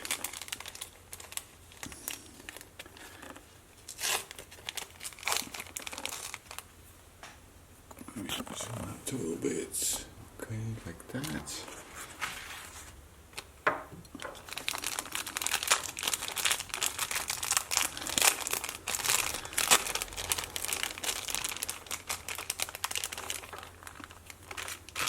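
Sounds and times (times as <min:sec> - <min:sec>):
plastic bag crinkling: 0:00.0 - 0:06.7, 0:10.9 - 0:25.0.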